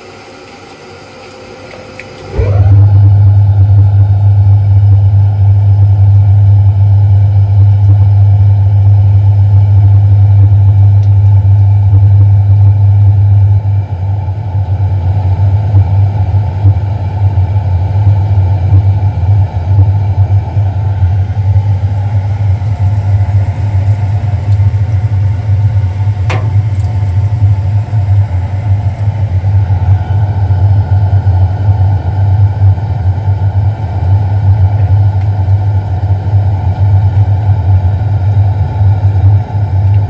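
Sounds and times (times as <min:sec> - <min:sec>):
boiler burner deep rumble: 0:00.0 - 0:40.0.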